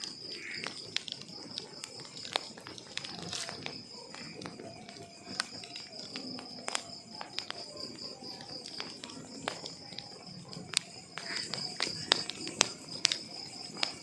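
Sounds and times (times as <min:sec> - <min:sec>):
burning logs crackling: 0:00.0 - 0:14.0.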